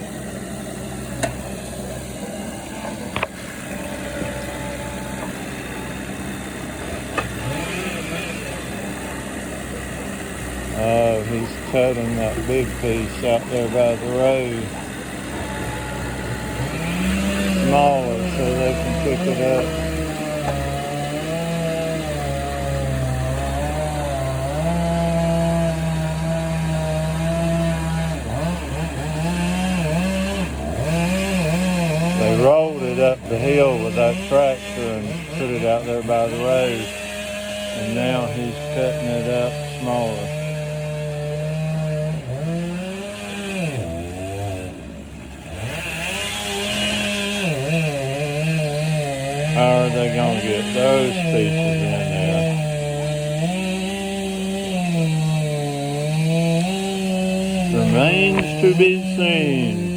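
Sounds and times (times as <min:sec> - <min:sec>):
chainsaw cutting log: 0:00.0 - 0:59.9
chainsaw idling: 0:00.0 - 0:59.9.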